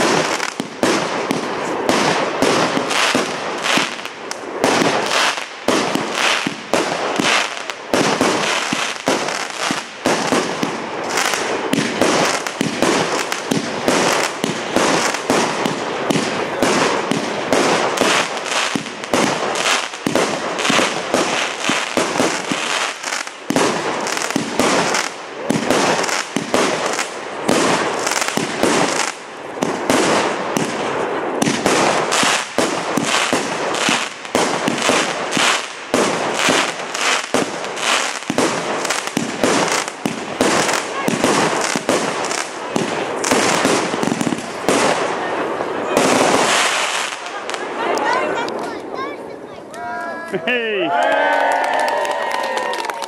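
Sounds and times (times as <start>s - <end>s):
fireworks banging and crackling: 0.0s - 50.6s.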